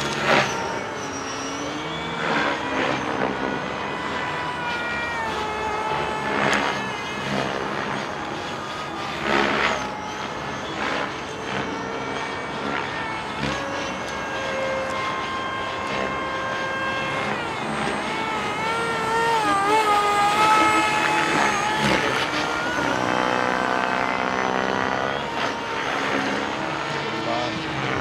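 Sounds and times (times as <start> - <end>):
model jet fan whining: 0.0 - 28.0.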